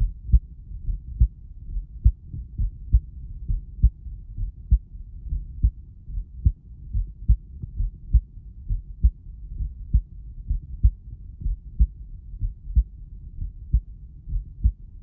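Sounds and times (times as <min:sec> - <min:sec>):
heartbeat thumps: 0:00.0 - 0:15.0
low rumble: 0:00.0 - 0:15.0.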